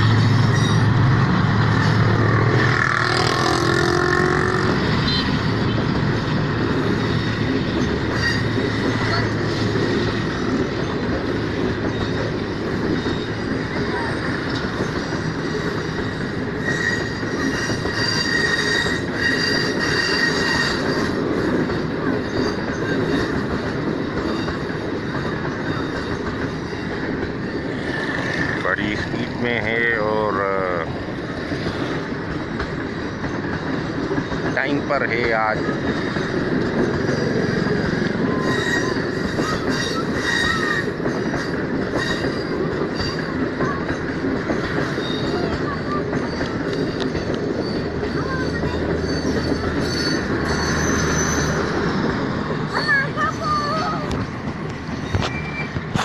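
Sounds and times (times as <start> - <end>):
train wheels squealing: 0.0 - 1.1, 3.0 - 32.1, 32.7 - 54.2, 54.8 - 56.0
train coaches rumbling past: 0.0 - 56.0.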